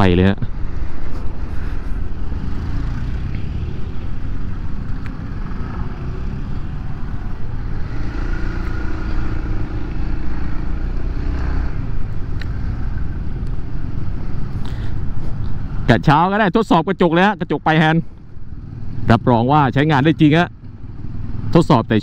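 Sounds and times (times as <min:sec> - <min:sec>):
scooter engine and road rumble: 0:00.0 - 0:22.0.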